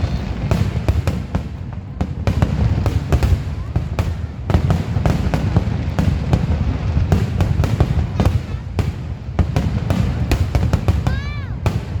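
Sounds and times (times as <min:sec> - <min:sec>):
fireworks sharp bangs: 0:00.0 - 0:12.0
steady low rumble: 0:00.0 - 0:12.0.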